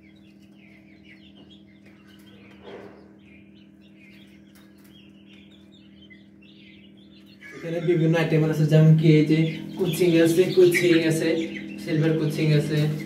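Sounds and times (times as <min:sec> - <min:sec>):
chicks peeping: 0:00.0 - 0:13.0
low steady hum: 0:00.0 - 0:13.0.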